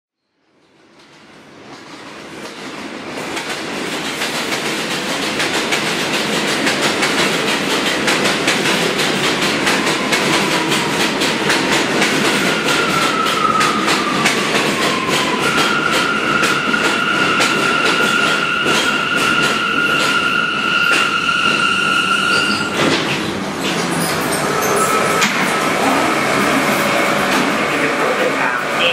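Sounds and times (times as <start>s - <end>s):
subway train rattling past: 0.5s - 28.9s.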